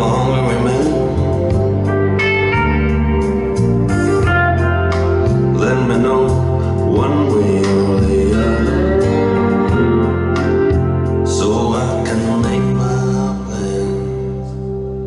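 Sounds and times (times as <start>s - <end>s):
person singing: 0.0s - 1.7s, 3.9s - 14.8s
guitar: 0.0s - 15.0s
steady bass line: 0.0s - 15.0s.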